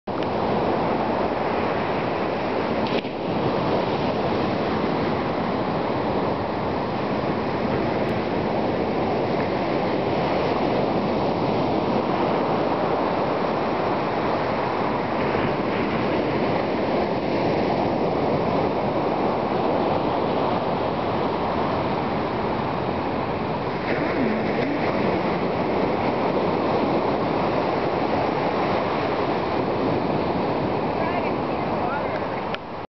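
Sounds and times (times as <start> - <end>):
ocean surf breaking on sand: 0.1 - 32.8.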